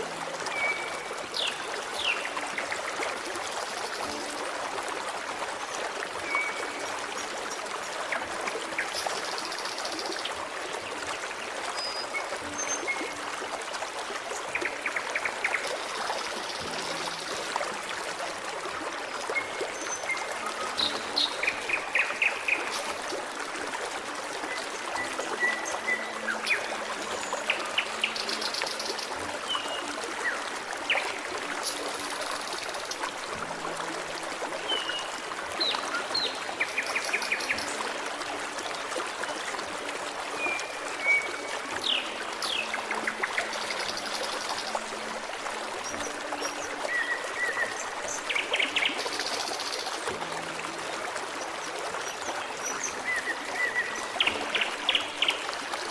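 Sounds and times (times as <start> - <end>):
stream trickling and burbling: 0.0 - 55.9.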